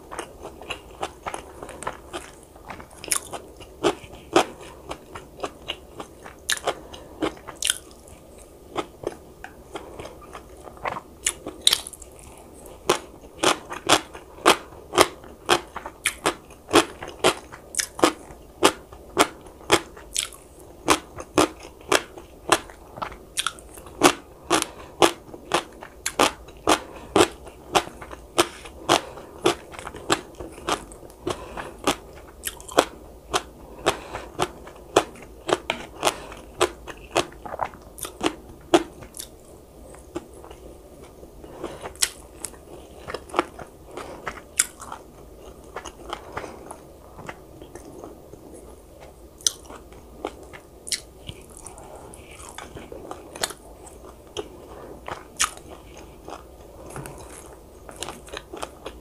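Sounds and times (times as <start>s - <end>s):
crunchy food chewing: 0.0s - 59.0s.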